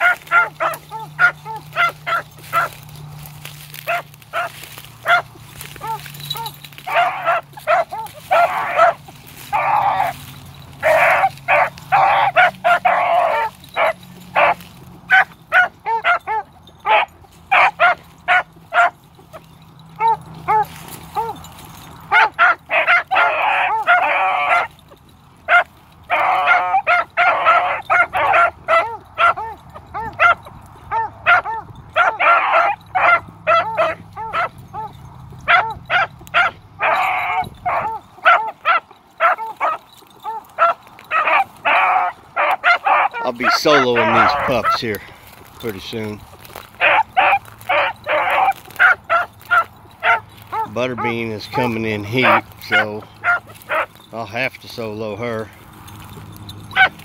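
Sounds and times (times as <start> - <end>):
puppies barking: 0.0 - 57.0
puppies baying cries: 0.0 - 57.0.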